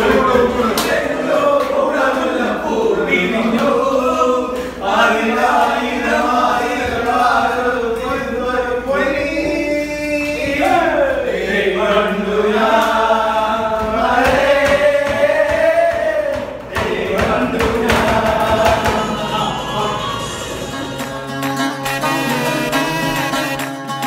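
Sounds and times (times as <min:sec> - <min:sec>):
voices singing a chant: 0:00.0 - 0:23.6.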